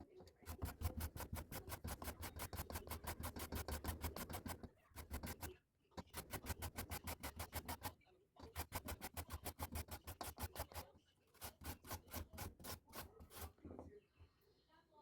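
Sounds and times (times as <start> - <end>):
papaya being grated: 0.0 - 13.6.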